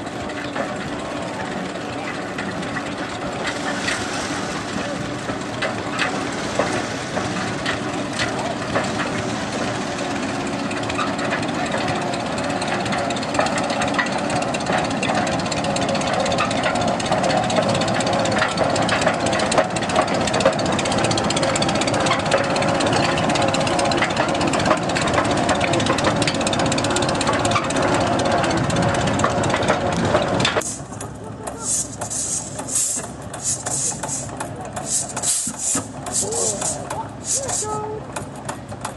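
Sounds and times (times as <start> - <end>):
tractor engine rattling: 0.0 - 38.9.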